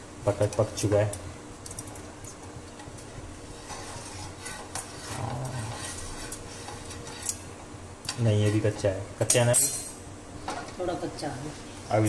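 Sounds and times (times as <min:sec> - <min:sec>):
dosa sizzling in pan: 0:00.7 - 0:10.8.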